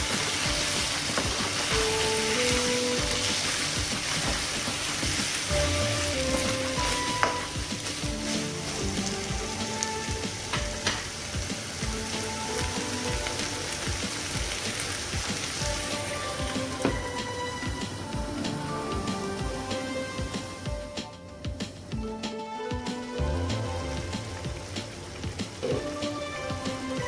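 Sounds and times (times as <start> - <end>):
chicken sizzling in oil: 0.0 - 21.0, 22.0 - 27.0.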